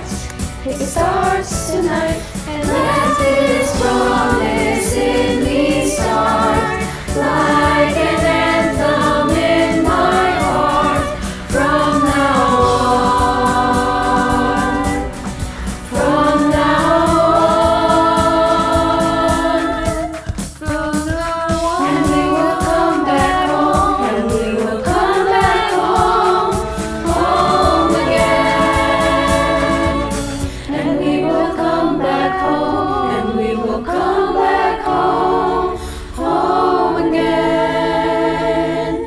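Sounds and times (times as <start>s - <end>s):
choir singing in harmony: 0.0s - 39.0s.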